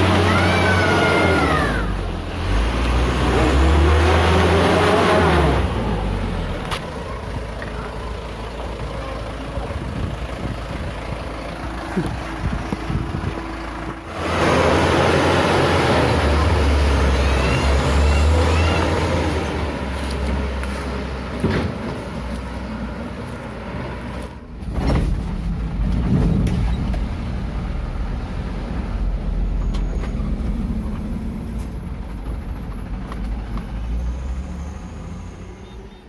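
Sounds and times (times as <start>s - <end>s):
truck diesel engine running: 0.0s - 35.7s.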